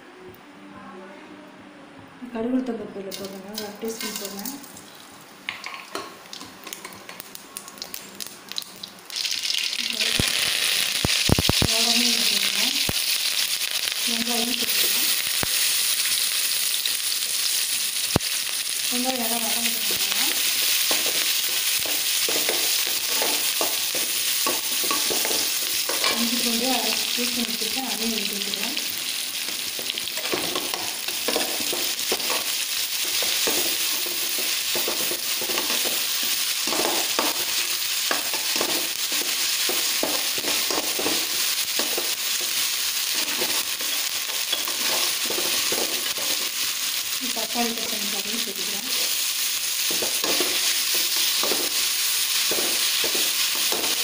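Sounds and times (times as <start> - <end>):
shallots sizzling in hot oil: 3.1 - 54.0.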